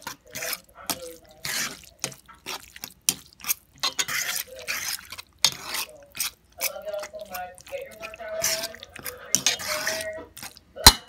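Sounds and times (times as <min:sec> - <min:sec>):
spoon stirring a pot: 0:00.0 - 0:11.0.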